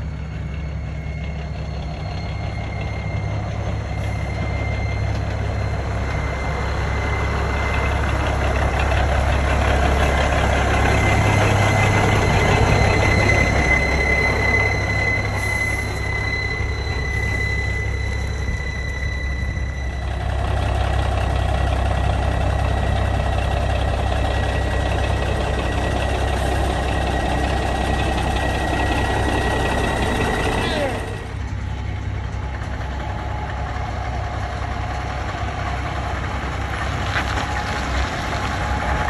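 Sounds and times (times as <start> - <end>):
high whine: 0.0 - 39.0
truck engine rumble: 0.0 - 39.0.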